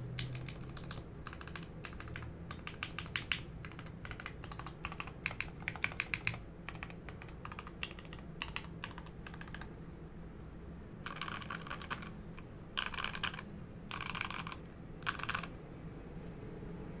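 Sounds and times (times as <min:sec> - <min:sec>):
mechanical keyboard typing: 0:00.1 - 0:09.7, 0:11.0 - 0:15.5.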